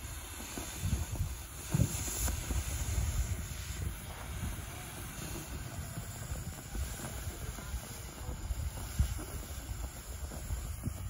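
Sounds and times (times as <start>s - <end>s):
firework fountain hissing: 0.0s - 11.0s
sharp firework pops: 0.0s - 11.0s
wind buffeting microphone: 0.0s - 11.0s.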